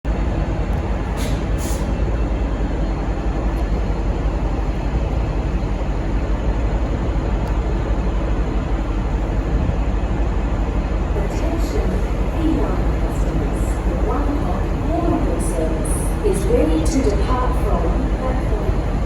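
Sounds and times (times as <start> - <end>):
diesel locomotive rumbling: 0.1 - 19.0.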